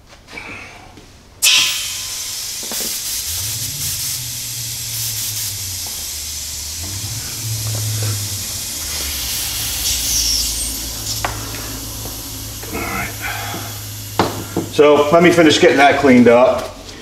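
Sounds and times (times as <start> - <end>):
airbrush spraying hiss: 1.4 - 15.8
low hum: 1.4 - 16.0.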